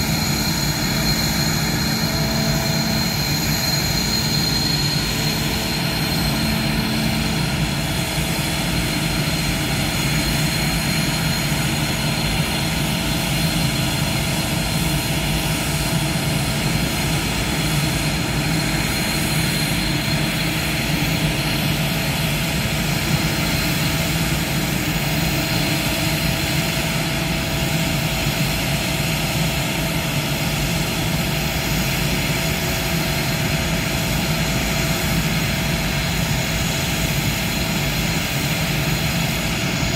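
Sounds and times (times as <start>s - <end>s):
jet engines idling with whine: 0.0s - 39.9s.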